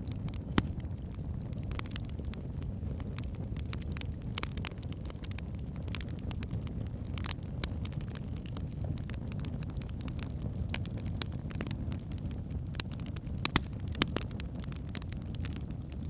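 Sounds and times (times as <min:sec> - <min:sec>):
fire roaring: 0:00.0 - 0:16.0
logs crackling and popping: 0:00.0 - 0:16.0.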